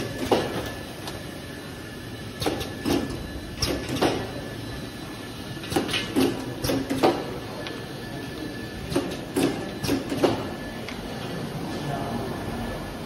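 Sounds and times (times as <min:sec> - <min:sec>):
machine hum with high whine: 0:00.0 - 0:13.0.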